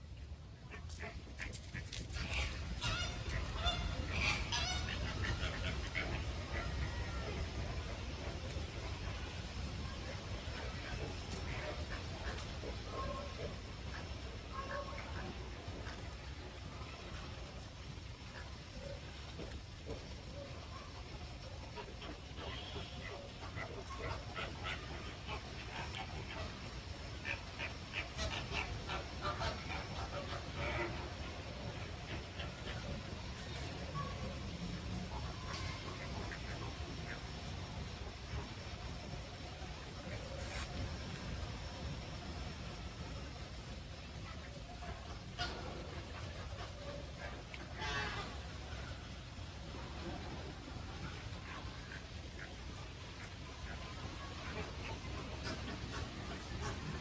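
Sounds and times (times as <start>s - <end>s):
steady low rumble: 0.0s - 57.0s
peafowl calling: 0.6s - 57.0s.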